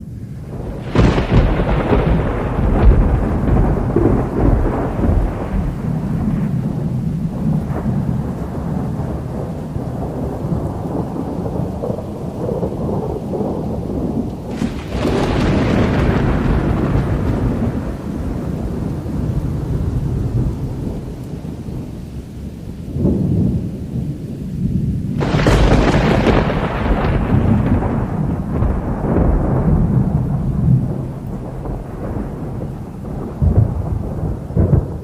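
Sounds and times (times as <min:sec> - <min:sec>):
rain: 0:00.0 - 0:35.0
thunder rumbling: 0:00.0 - 0:35.0.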